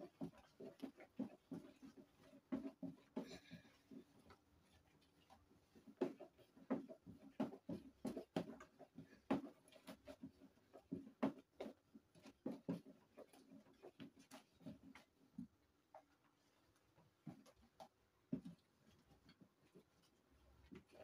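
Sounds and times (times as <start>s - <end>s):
spatula stirring liquid in plastic basin: 0.0s - 21.0s.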